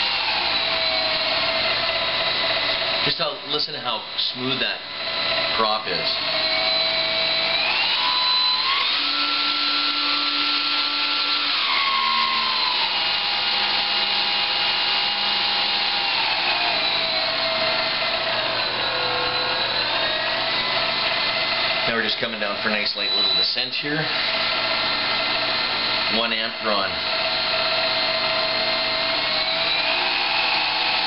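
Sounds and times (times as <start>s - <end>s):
electric motor whine: 0.0s - 31.0s.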